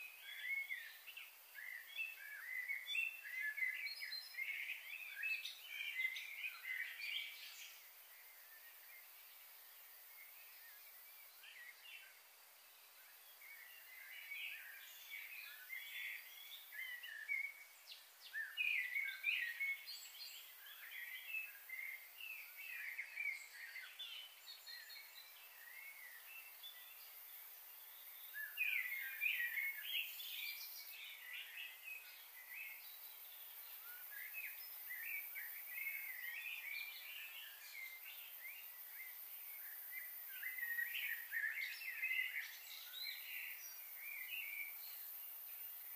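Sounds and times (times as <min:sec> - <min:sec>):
faint steady hiss: 0:00.0 - 0:45.9
small birds chirping: 0:00.0 - 0:45.9.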